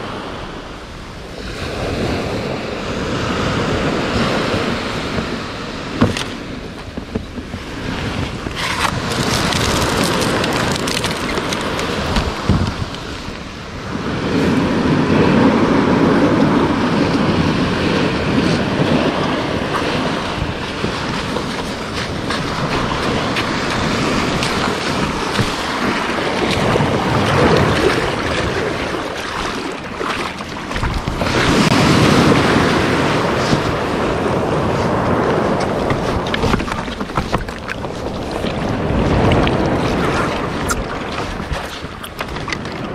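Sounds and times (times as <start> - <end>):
small waves washing ashore: 0.0 - 42.9
wind on microphone: 0.0 - 42.9.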